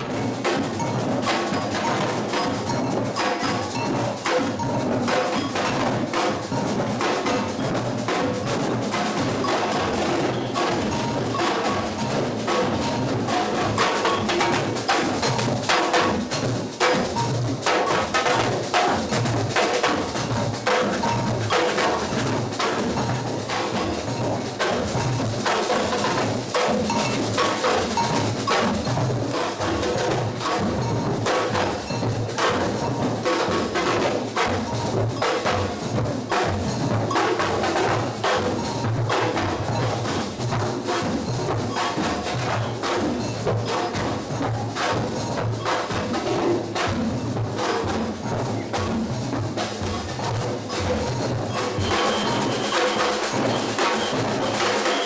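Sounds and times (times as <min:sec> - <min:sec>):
deep drum beats: 0:00.0 - 0:55.0
drum ensemble playing: 0:00.0 - 0:55.0
sharp drum strikes: 0:00.0 - 0:55.0.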